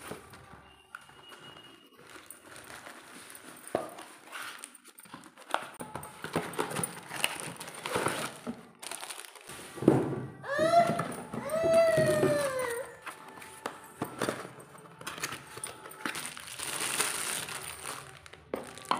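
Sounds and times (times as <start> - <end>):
packaging rustling: 0.0 - 9.8, 11.8 - 18.9.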